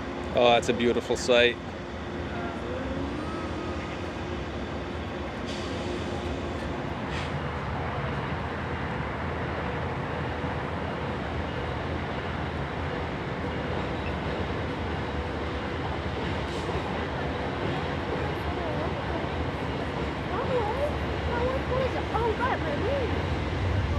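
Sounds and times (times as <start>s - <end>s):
passenger train rumbling on rails: 0.0s - 23.9s.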